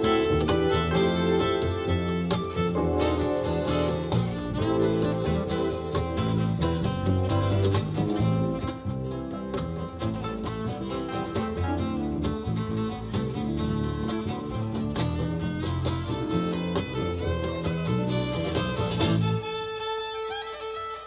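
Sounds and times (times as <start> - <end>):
live band playing upbeat tune: 0.0 - 21.0.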